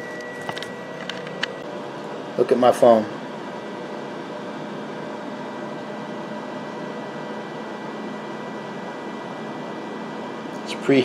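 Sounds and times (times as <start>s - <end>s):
air fryer fan whir: 0.0s - 11.0s.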